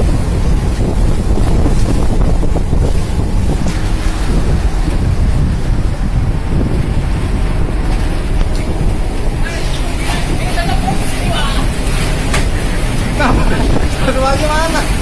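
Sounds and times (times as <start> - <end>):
heavy seas against ship: 0.0 - 15.0
wind buffeting microphone: 0.0 - 15.0.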